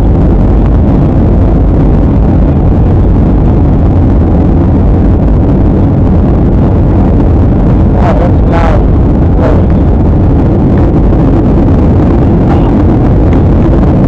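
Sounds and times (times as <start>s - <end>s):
jet cabin engine rush: 0.0s - 14.0s.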